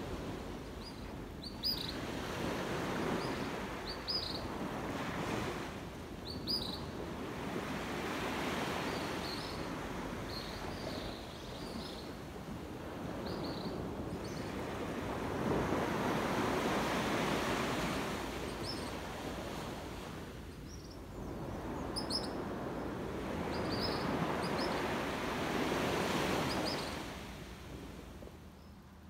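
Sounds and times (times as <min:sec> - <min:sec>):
waves washing on sandy beach: 0:00.0 - 0:28.6.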